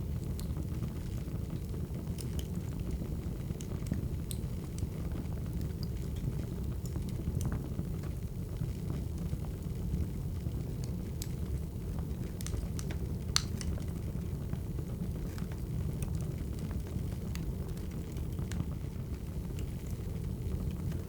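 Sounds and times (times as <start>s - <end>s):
low rumble of fire: 0.0s - 21.0s
wood fire popping: 0.0s - 21.0s.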